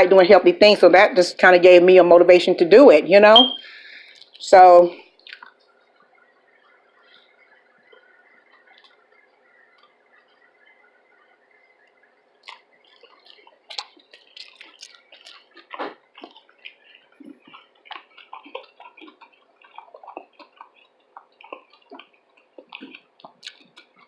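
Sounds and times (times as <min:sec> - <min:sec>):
wet chewing sounds: 0:04.0 - 0:04.4, 0:05.0 - 0:24.0.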